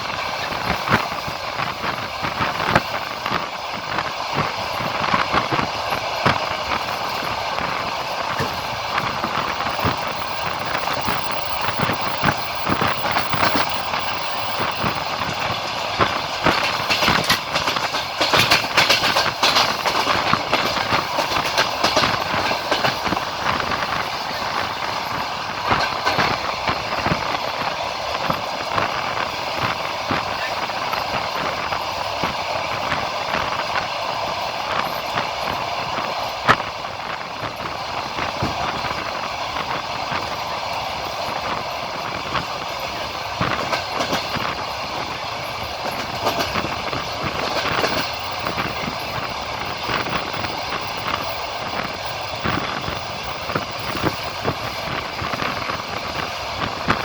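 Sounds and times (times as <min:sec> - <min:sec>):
moving train rumbling: 0:00.0 - 0:57.0
train wheels clacking: 0:00.0 - 0:57.0.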